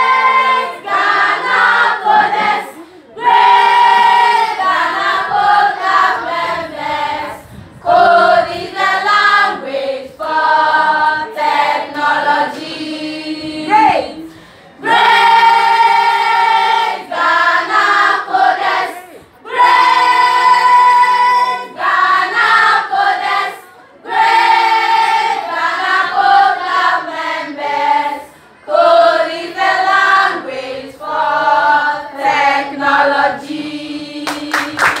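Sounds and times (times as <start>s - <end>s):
girls singing in chorus: 0.0s - 35.0s.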